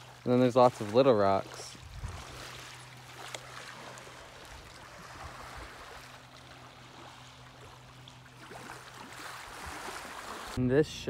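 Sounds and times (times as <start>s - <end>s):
small waves lapping on pebbles: 0.0s - 10.6s.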